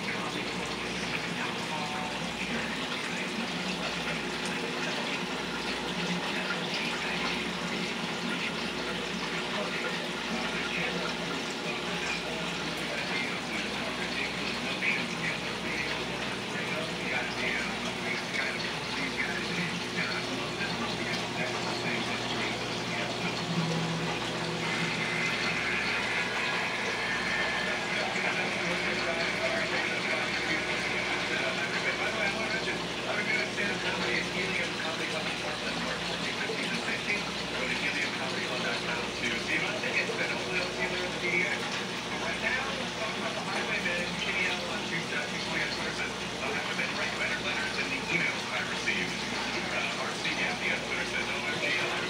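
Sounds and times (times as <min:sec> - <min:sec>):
aquarium water bubbling: 0:00.0 - 0:52.0.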